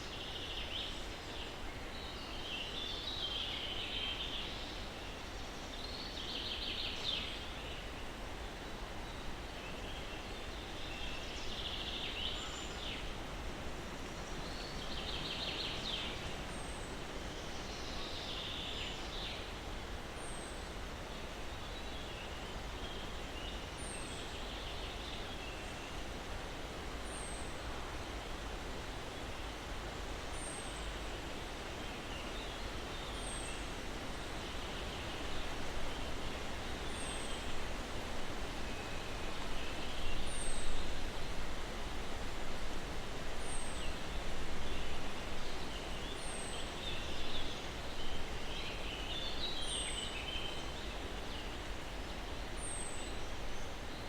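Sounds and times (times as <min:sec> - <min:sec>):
breeze through pine trees: 0:00.0 - 0:54.0
songbirds singing: 0:00.0 - 0:54.0.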